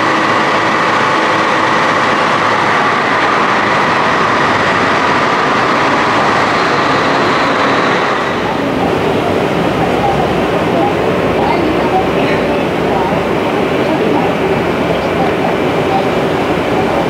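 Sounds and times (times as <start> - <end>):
bus engines idling: 0.0 - 17.0.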